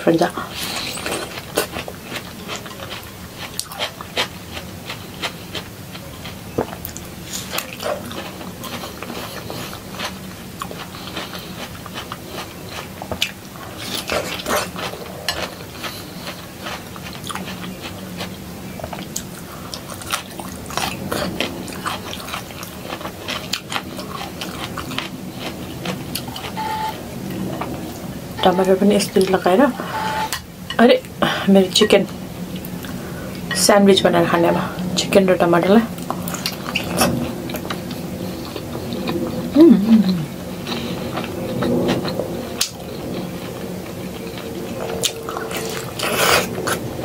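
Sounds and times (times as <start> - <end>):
person chewing soft food: 0.4 - 28.0, 36.0 - 47.0.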